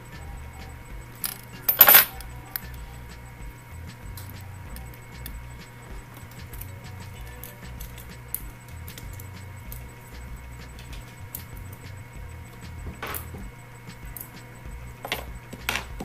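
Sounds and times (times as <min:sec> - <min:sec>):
faint background music: 0:00.0 - 0:16.0
steady low hum: 0:00.0 - 0:16.0.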